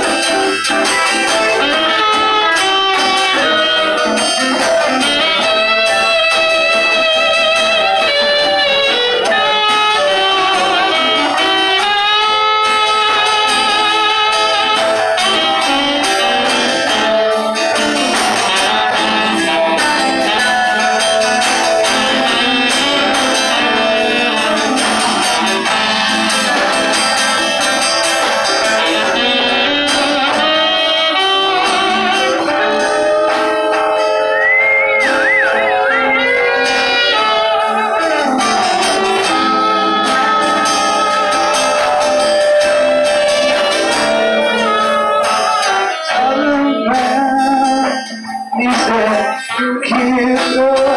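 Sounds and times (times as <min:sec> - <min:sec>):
saxophone lead line: 0:00.0 - 0:49.6
drums: 0:00.0 - 0:50.9
electric and acoustic guitars: 0:00.0 - 0:50.9.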